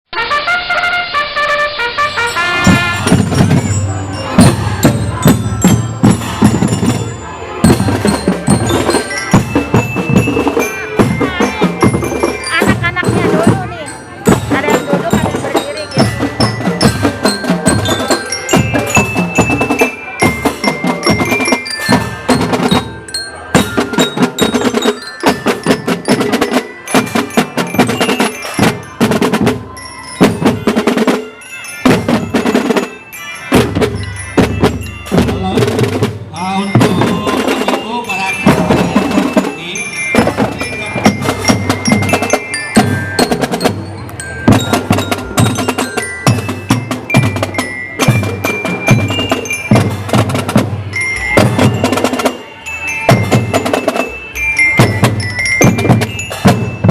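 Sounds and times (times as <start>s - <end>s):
drums playing march beat: 0.1s - 56.9s
glockenspiel melody: 1.9s - 56.9s.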